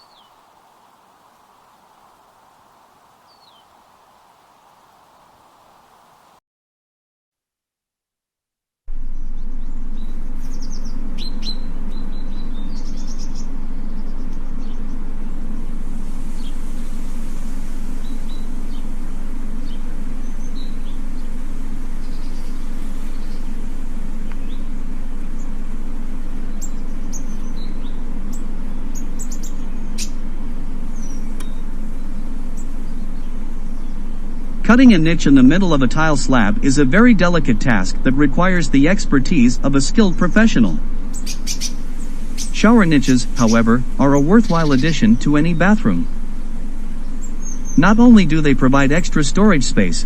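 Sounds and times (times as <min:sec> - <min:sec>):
small birds chirping: 0:00.0 - 0:06.4, 0:09.1 - 0:50.0
steady low rumble: 0:09.0 - 0:28.8, 0:29.4 - 0:50.0.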